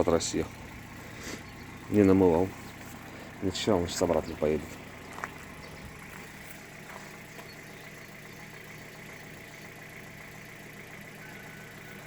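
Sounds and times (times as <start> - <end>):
car engine idling: 0.0 - 12.0
fuel injectors ticking: 0.0 - 12.0.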